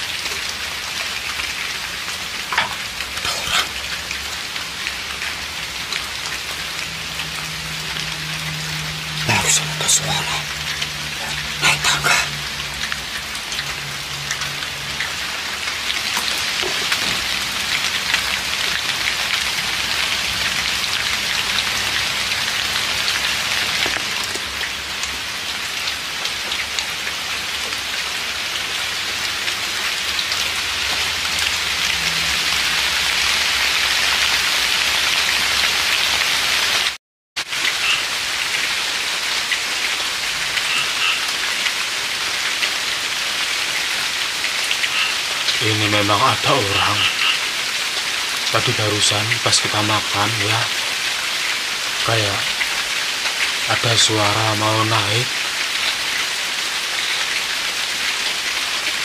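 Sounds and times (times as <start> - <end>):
drizzling rain pattering: 0.0 - 59.0.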